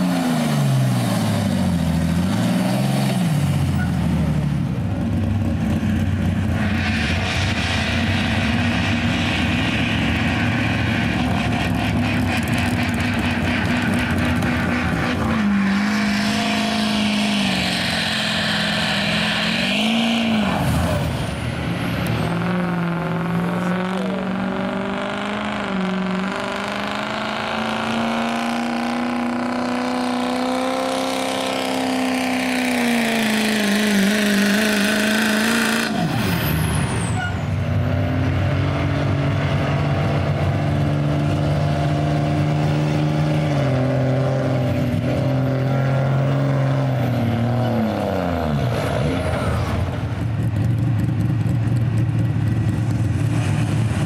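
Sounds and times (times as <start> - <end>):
diesel truck engines droning: 0.0 - 54.0.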